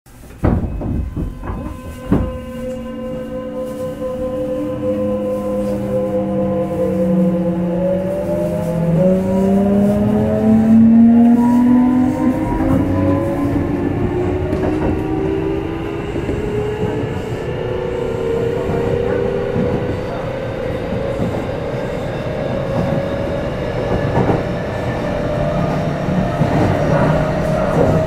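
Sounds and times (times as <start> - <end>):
wheels rumbling on rail: 0.1 - 28.0.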